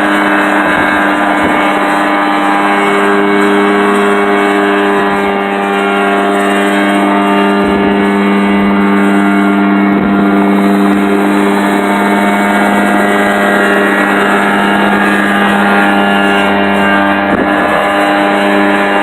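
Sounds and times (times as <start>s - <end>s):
helicopter rotor turning: 0.0s - 19.0s
two-stroke engine running: 0.0s - 19.0s.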